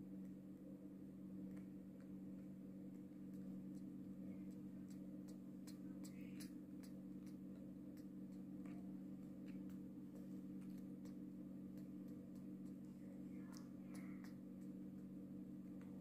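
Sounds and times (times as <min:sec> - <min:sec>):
steady low hum: 0:00.0 - 0:16.0
faint light ticks: 0:01.5 - 0:16.0.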